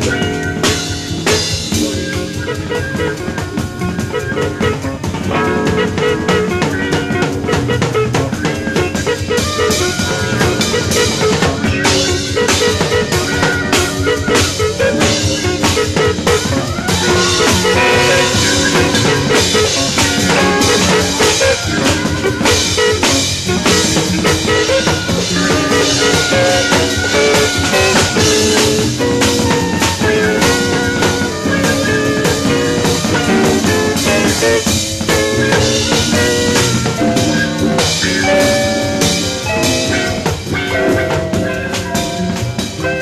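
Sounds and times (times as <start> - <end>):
drum kit strokes: 0.0 - 43.0
jazz ensemble playing: 0.0 - 43.0.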